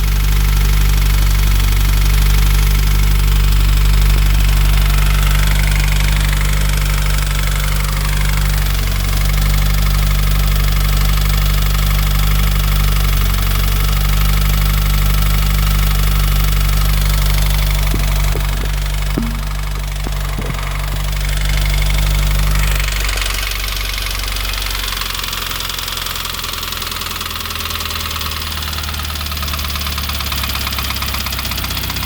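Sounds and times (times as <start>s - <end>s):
car engine idling: 0.0s - 32.0s
engine knocking: 0.0s - 32.0s.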